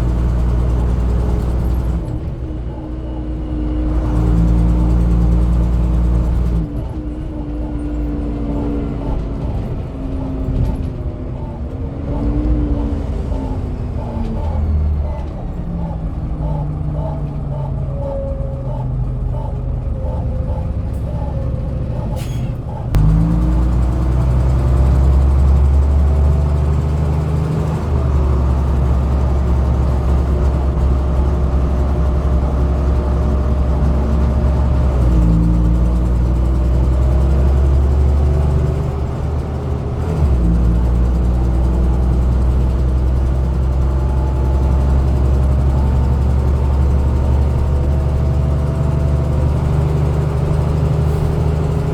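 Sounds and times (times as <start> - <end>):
bus engine pulling away: 0.0 - 51.9.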